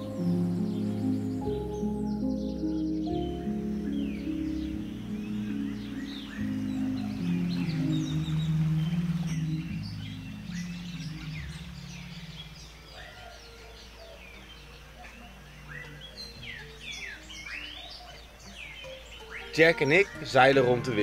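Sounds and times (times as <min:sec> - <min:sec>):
forest birds chirping: 0:00.0 - 0:21.0
soft background music: 0:00.0 - 0:21.0.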